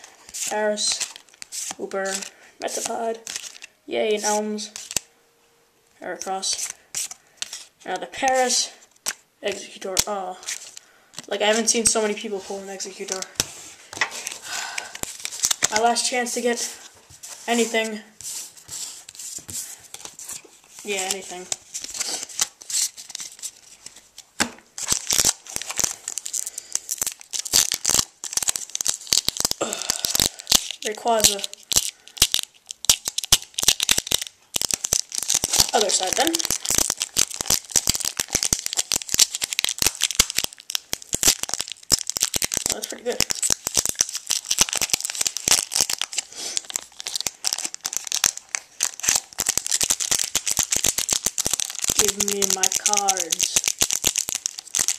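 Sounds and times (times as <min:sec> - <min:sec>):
foil wrapper crinkling and ripping: 0:00.0 - 0:05.1, 0:06.5 - 0:12.2, 0:13.0 - 0:17.7, 0:18.4 - 0:54.9.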